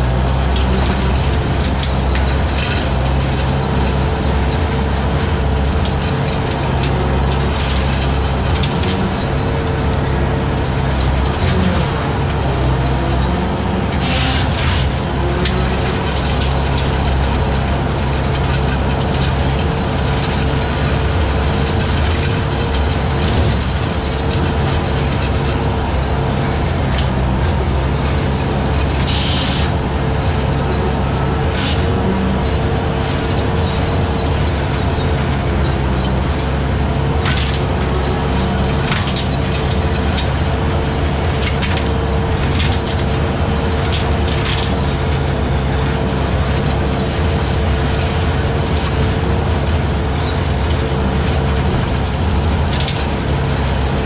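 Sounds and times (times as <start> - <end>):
skid steer engine running: 0.0 - 54.0.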